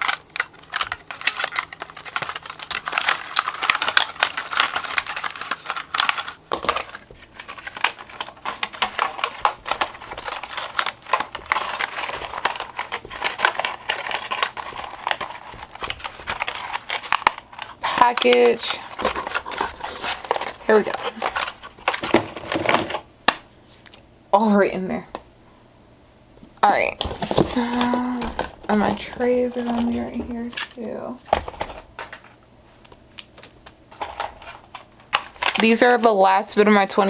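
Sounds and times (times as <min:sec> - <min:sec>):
packaging crinkling: 0:00.0 - 0:24.0, 0:26.8 - 0:36.4.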